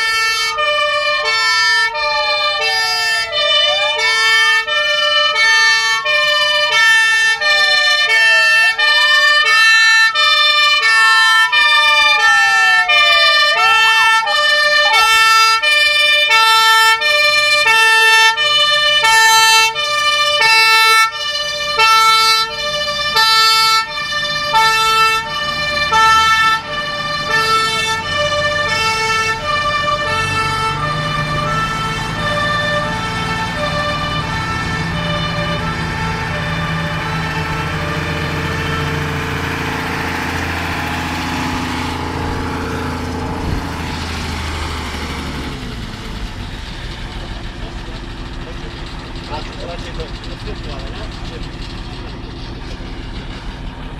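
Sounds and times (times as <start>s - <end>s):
two-tone siren: 0.0s - 47.4s
vehicle engine rumble: 0.0s - 53.9s
wailing siren: 0.0s - 53.9s.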